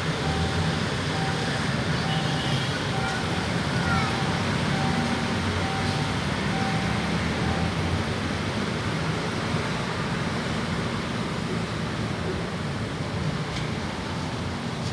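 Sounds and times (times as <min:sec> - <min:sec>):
diesel locomotive rumble: 0:00.0 - 0:14.9.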